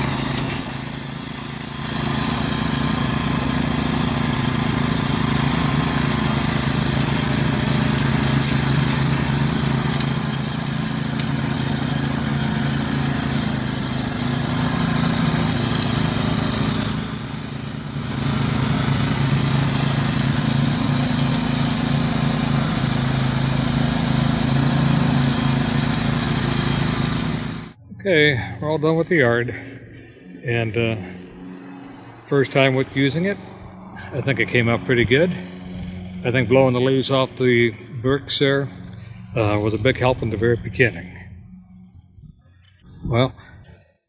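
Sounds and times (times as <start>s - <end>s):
riding mower engine hum: 0.0s - 43.9s.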